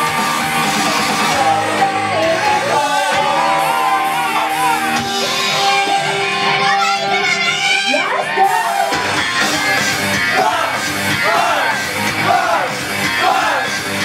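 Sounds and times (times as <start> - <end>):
live pop-rock band: 0.0 - 14.0
shouted voices: 1.0 - 14.0.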